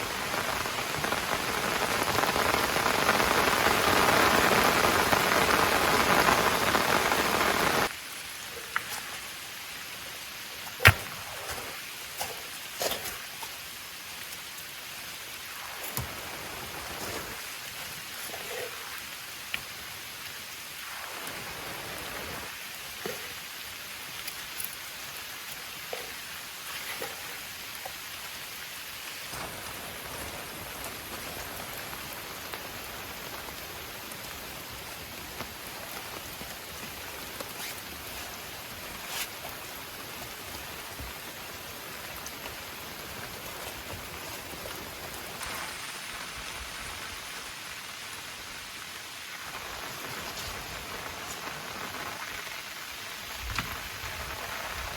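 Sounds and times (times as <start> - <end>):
rain: 0.0 - 54.9.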